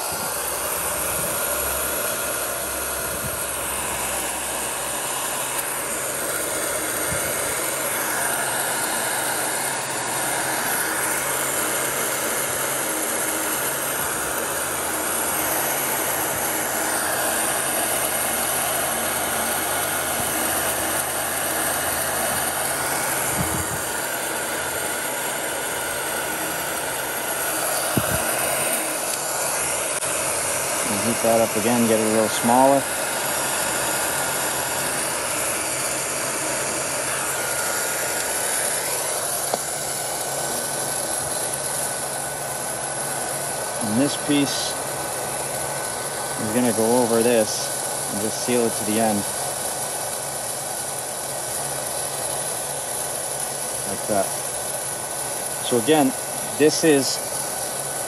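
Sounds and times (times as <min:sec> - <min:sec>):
heat gun fan blowing: 0:00.0 - 0:58.0.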